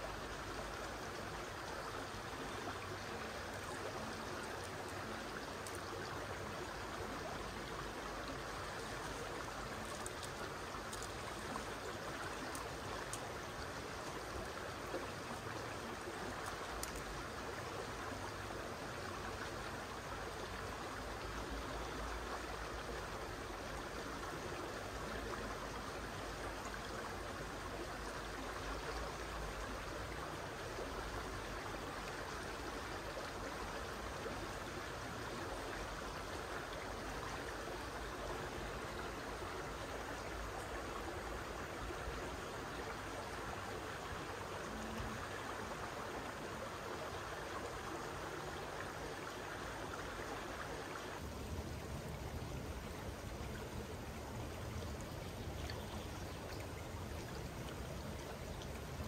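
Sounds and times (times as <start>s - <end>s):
river flowing over gravel: 0.0s - 59.0s.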